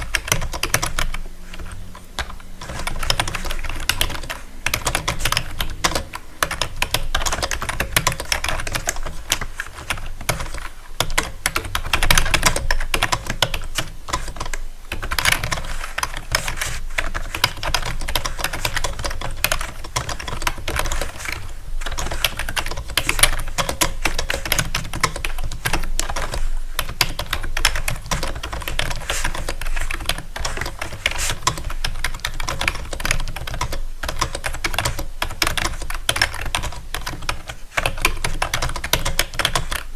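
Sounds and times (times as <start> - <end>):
rapid clicking taps: 0.0 - 39.9.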